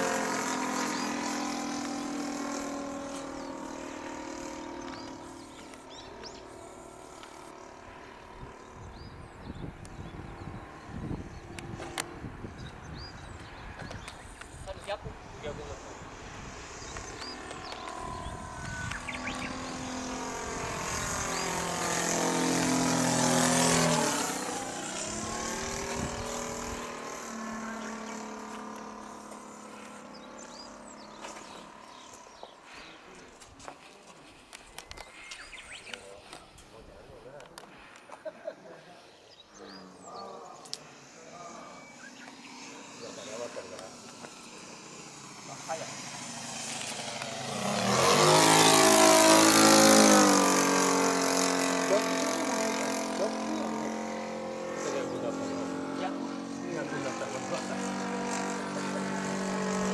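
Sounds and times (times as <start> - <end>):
model plane engine droning: 0.0 - 36.8, 39.3 - 59.9.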